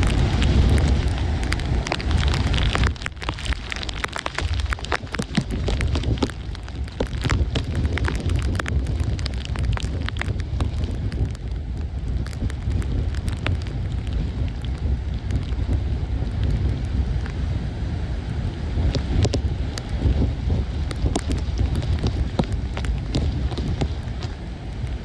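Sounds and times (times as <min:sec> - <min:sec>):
rain tapping: 0:00.0 - 0:25.0
storm wind buffeting microphone: 0:00.0 - 0:25.0.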